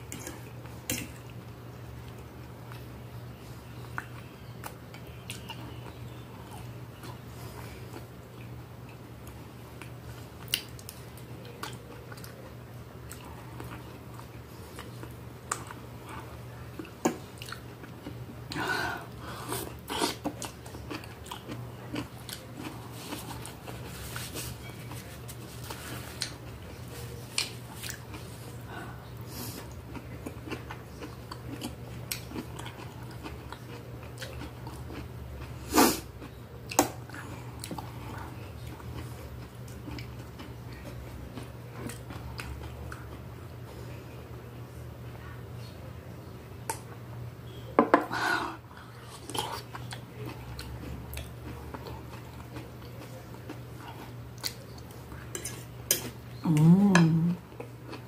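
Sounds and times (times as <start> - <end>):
person chewing food: 3.8 - 43.2, 48.6 - 58.0.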